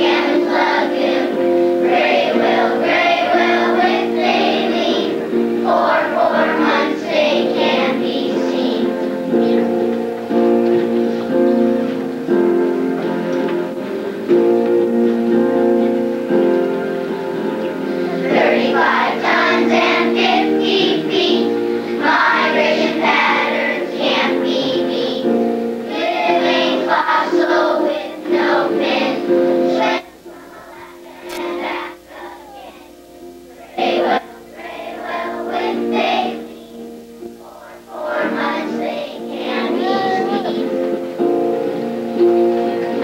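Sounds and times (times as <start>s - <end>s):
children singing together: 0.0s - 43.0s
instrumental accompaniment: 0.0s - 43.0s.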